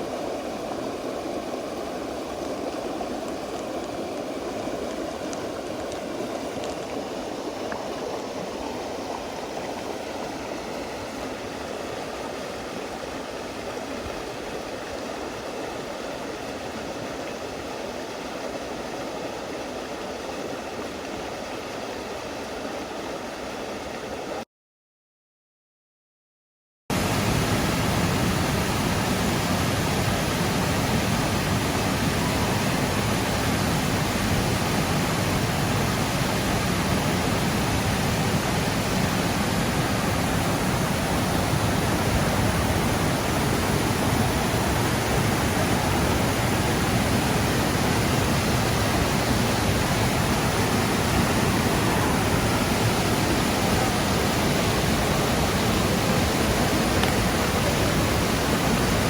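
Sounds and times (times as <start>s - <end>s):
creek water rushing: 0.0s - 24.4s, 26.9s - 59.0s.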